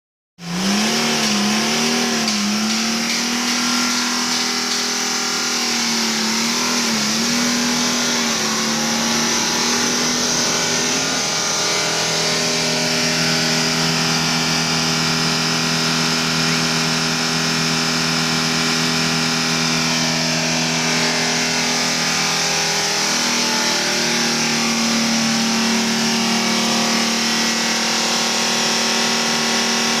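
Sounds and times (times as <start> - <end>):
car engine running at raised revs: 0.4 - 30.0.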